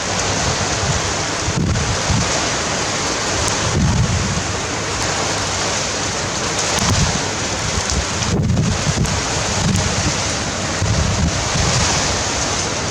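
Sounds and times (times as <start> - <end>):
strong wind blowing: 0.0 - 12.9
wind buffeting microphone: 0.0 - 12.9.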